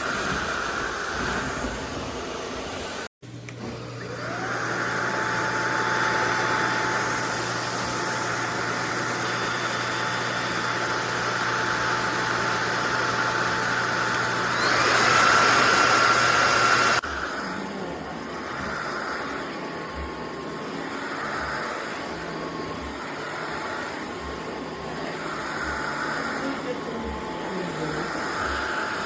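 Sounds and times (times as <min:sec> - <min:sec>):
vacuum cleaner motor whine: 0:00.0 - 0:29.0.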